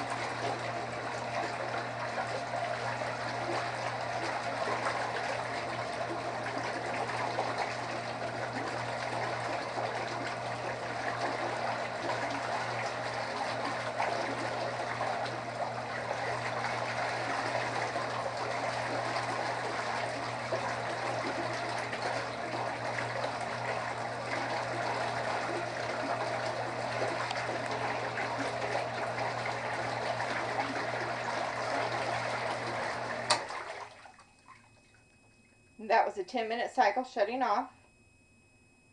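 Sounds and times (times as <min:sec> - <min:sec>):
water churning and trickling: 0:00.0 - 0:36.0
pump motor hum: 0:00.0 - 0:37.6.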